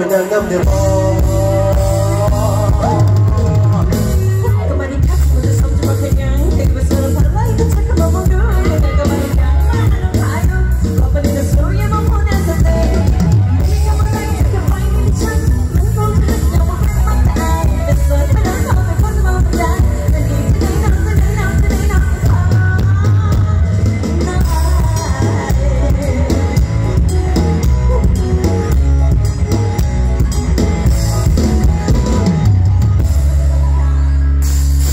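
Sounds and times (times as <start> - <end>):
person singing: 0.0 - 29.5
bass: 0.0 - 34.9
drum kit: 0.0 - 34.9.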